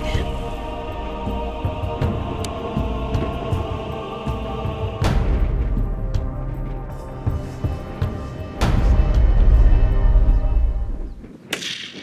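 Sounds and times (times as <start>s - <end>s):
tense drone music: 0.0s - 11.2s
soft pulsing thumps: 0.2s - 11.3s.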